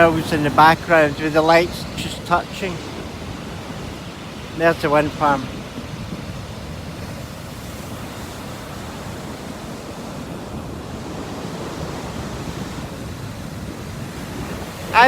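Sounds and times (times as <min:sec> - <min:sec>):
waves on stony beach: 0:00.0 - 0:15.0
wind rumbling on microphone: 0:00.0 - 0:15.0.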